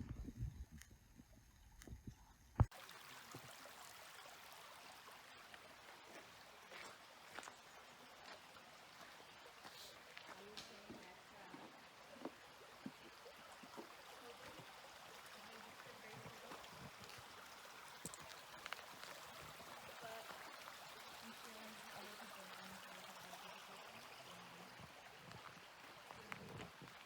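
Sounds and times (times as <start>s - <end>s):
creek running faintly: 0.0s - 27.0s.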